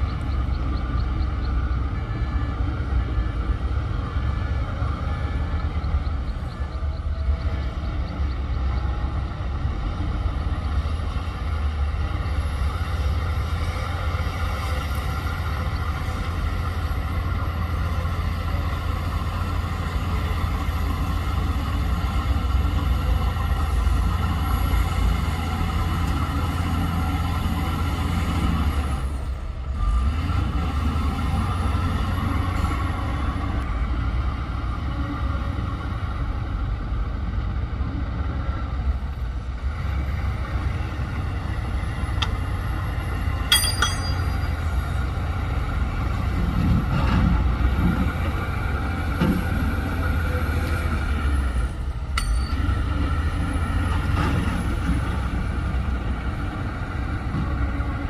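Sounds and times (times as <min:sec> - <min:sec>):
earthmoving machinery diesel engine: 0:00.0 - 0:58.0.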